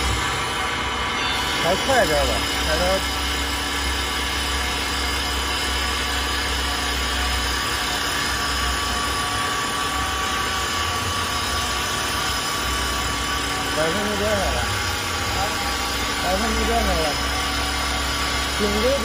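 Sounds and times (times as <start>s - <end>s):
high whining tones: 0.0s - 19.0s
lathe machine hum: 0.0s - 19.0s.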